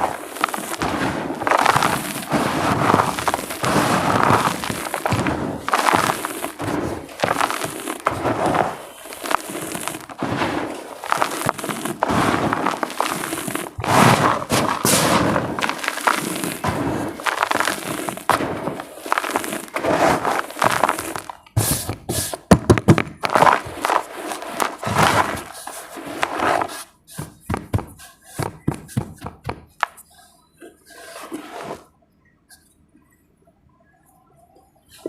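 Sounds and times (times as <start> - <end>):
dry clay crumbling and crunching: 0.0 - 30.0.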